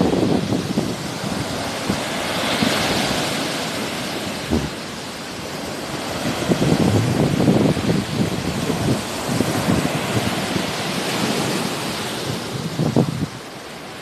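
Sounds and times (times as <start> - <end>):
wind buffeting microphone: 0.0 - 13.6
sea waves washing on shore: 0.0 - 14.0.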